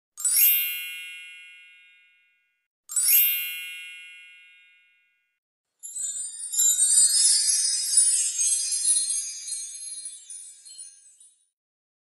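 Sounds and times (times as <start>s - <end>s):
bright bell-like chime: 0.2s - 11.6s.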